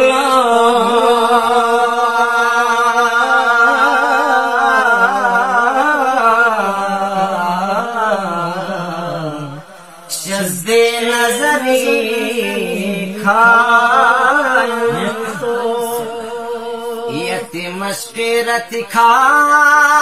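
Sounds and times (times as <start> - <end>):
men singing devotional song: 0.0 - 20.0.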